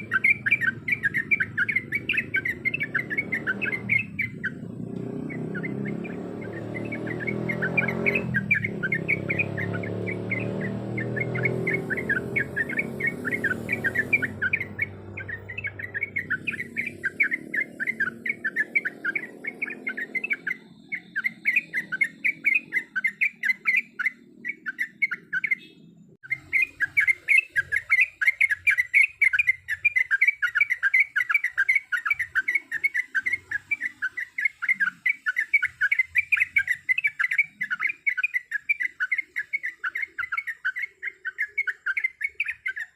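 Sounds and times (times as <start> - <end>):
bird chirping bright notes: 0.0 - 42.9.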